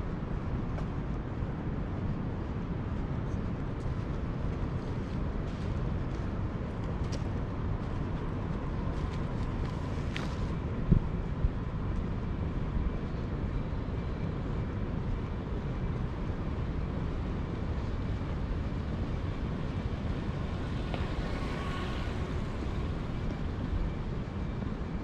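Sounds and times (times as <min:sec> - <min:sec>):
city street noise rumble: 0:00.0 - 0:25.0.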